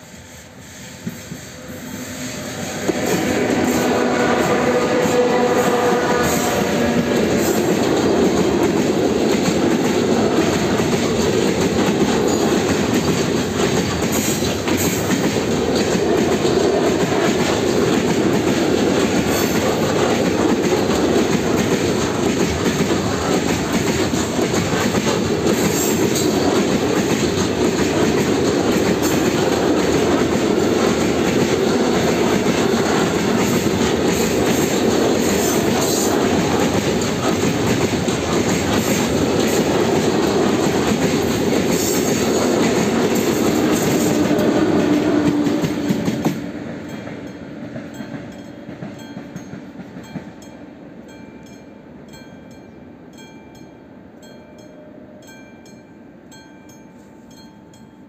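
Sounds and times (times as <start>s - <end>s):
train wheels rumbling on rails: 0.0s - 53.2s.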